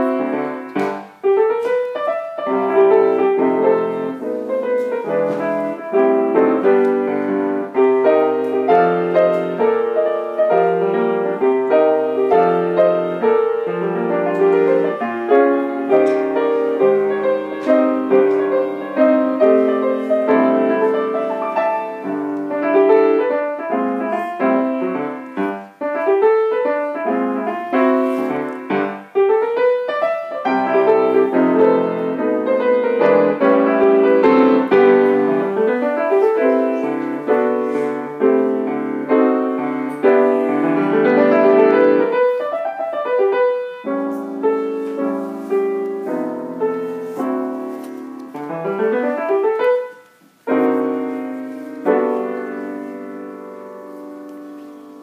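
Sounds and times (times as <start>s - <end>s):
solo grand piano piece: 0.0s - 55.0s.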